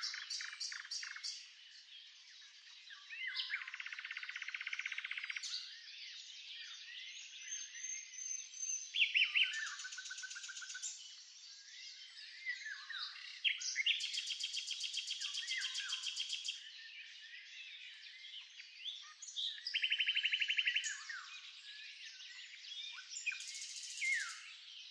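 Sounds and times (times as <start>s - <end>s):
bird singing: 0.0s - 24.9s.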